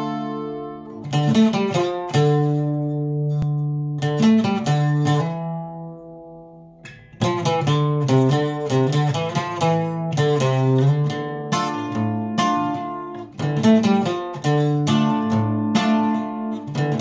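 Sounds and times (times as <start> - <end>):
acoustic guitar plucked notes: 0.0 - 17.0.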